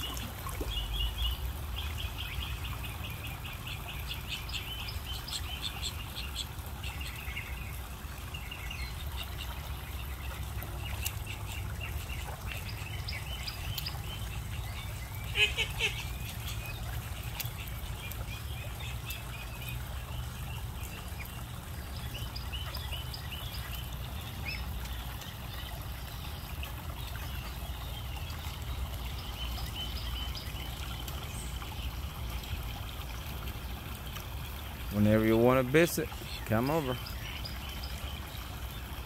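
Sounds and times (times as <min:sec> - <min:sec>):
water trickling into pond: 0:00.0 - 0:39.0
young birds peeping: 0:00.0 - 0:39.0.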